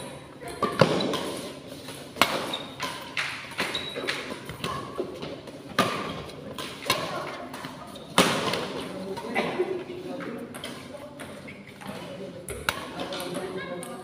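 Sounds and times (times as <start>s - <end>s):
rackets hitting shuttlecock: 0.0s - 9.6s, 10.2s - 14.0s.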